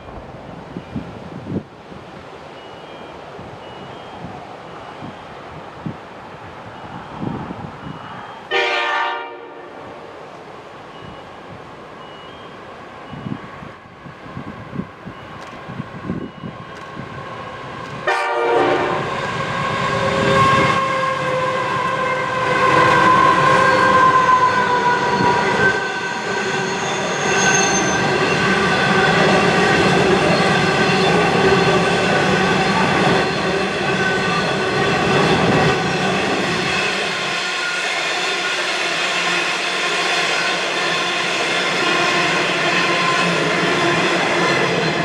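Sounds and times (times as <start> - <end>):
train hum of stacked tones: 0.0 - 1.6, 2.5 - 45.0
train passing: 0.0 - 45.0.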